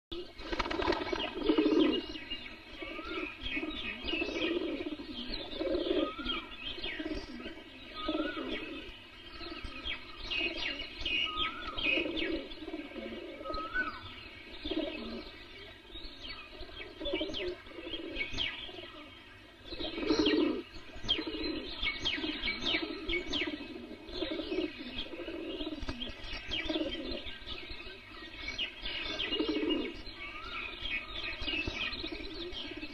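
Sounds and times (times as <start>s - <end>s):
birds chirping: 0.1s - 32.9s
doves cooing: 0.1s - 32.9s.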